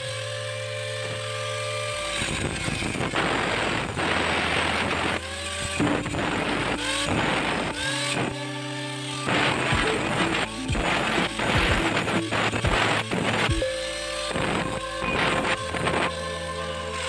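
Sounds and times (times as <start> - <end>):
angle grinder cutting steel tubing: 0.1 - 17.0.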